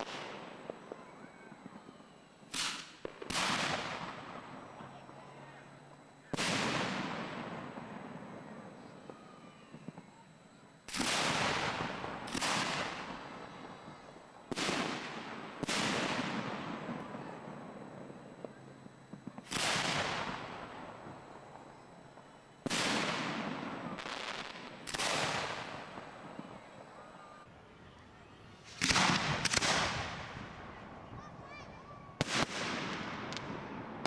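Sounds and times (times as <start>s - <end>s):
fireworks booming: 0.0s - 27.4s, 28.6s - 34.0s.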